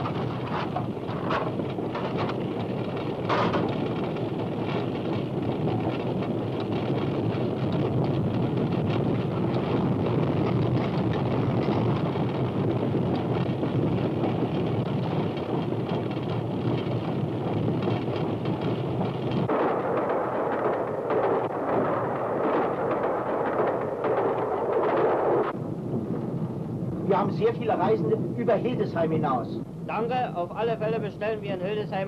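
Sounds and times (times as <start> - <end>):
steam locomotive rumbling and rattling: 0.0 - 32.0.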